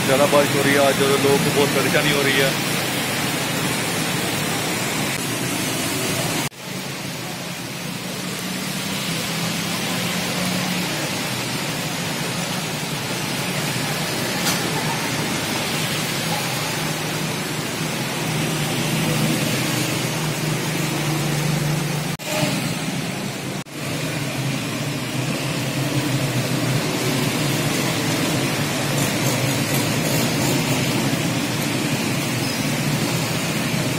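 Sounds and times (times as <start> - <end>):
motorbikes driving through water: 0.0 - 33.9
rain hissing on flooded street: 0.0 - 33.9.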